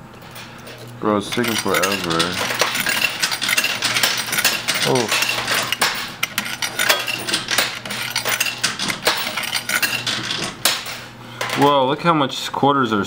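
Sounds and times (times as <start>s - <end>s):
steady low hum: 0.0s - 12.2s
coins clinking: 0.3s - 11.8s.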